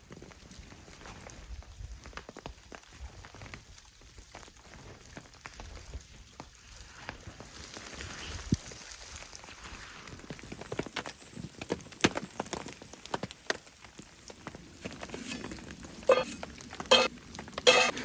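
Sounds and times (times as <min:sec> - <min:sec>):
drops pattering on a tarp: 0:00.0 - 0:18.0.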